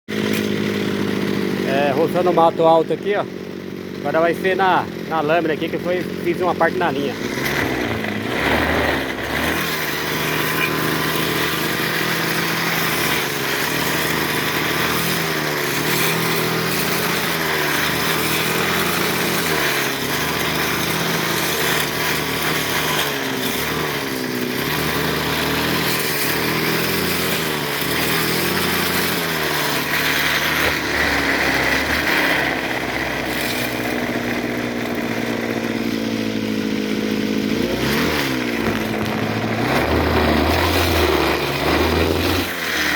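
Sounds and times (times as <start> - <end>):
brushcutter cutting brush: 0.1 - 42.9.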